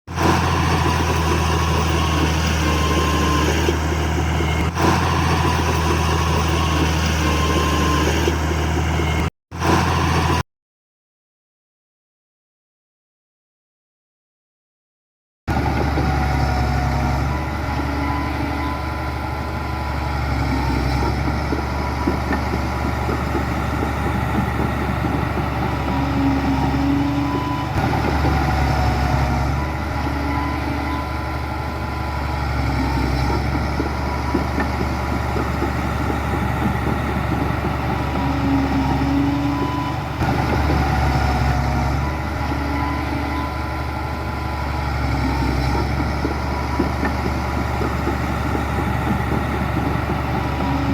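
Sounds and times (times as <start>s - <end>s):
heavy diesel machinery droning: 0.1s - 10.4s, 15.5s - 50.9s.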